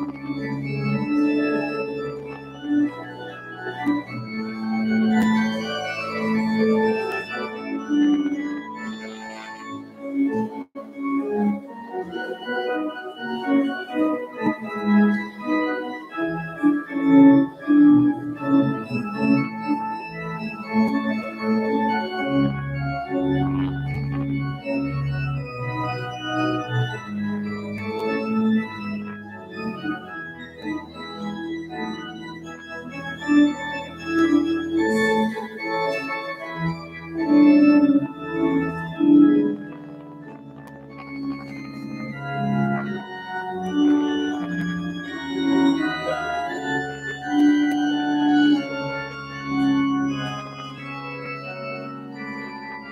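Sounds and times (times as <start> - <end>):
organ playing held chords: 0.0 - 52.9.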